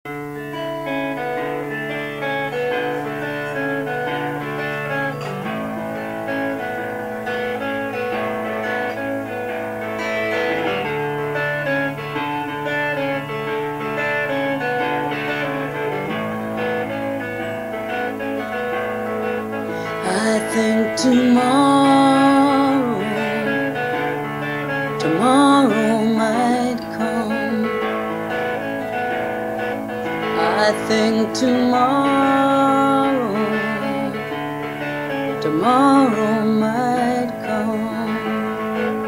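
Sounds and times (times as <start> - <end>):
solo electric guitar: 0.0 - 39.0.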